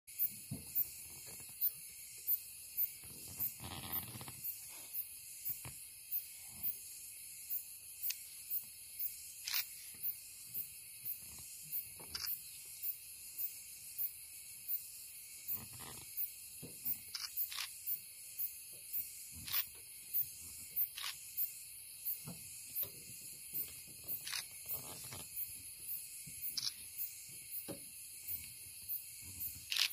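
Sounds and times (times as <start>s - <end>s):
night insects chirping: 0.1s - 29.9s.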